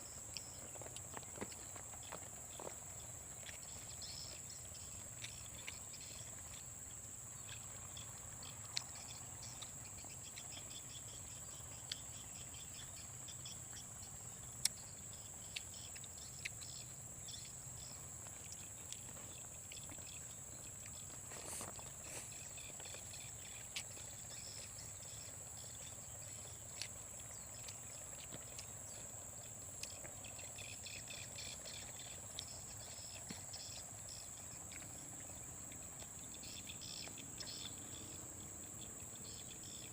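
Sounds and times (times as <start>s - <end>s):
insects droning high-pitched: 0.0s - 39.9s
pulsing insect calls: 0.0s - 39.9s.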